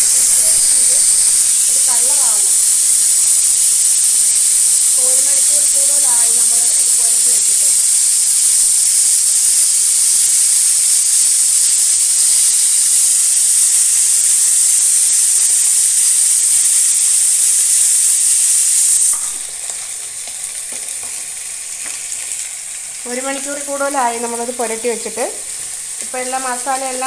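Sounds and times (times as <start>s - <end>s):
ghee sizzling in a hot pan: 0.0s - 27.0s.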